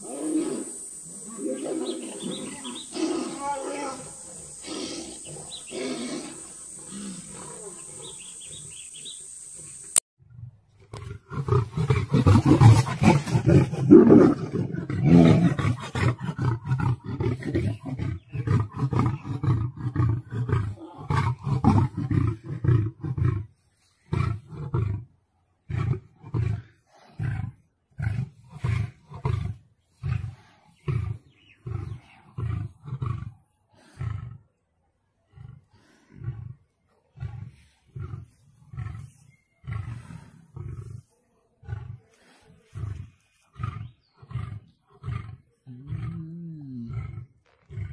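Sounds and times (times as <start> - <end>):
lion roaring: 0.0 - 9.1, 10.9 - 34.6, 35.2 - 47.9
lion grunting: 0.0 - 9.2, 10.9 - 47.9.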